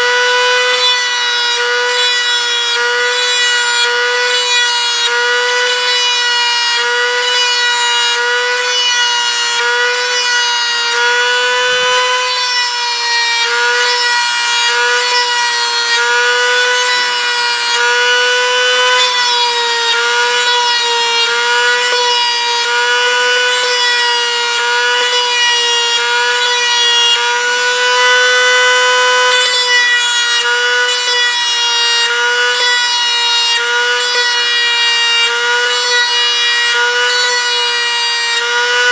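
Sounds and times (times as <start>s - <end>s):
rotary tool high-pitched whine: 0.0s - 38.9s.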